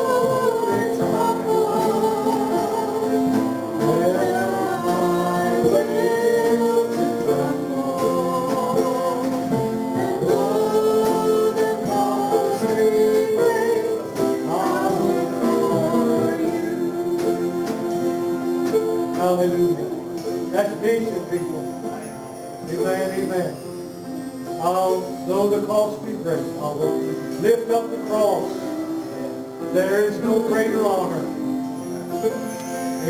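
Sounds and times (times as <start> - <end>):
voices singing a worship song: 0.0 - 23.8, 24.6 - 33.0
guitar accompaniment: 0.0 - 33.0.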